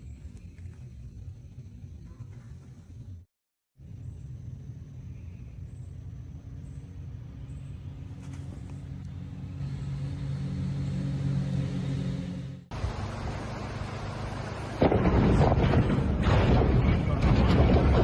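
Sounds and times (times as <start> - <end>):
engine-like low hum: 0.0 - 18.0.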